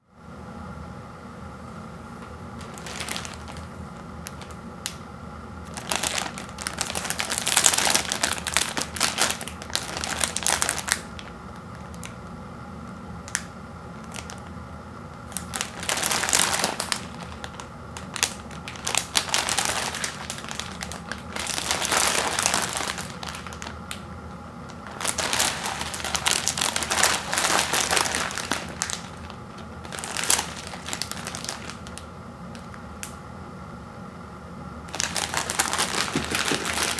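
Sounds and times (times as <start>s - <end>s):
plastic packaging crinkling: 2.6s - 5.0s, 5.6s - 12.3s, 13.2s - 33.2s, 34.9s - 36.9s.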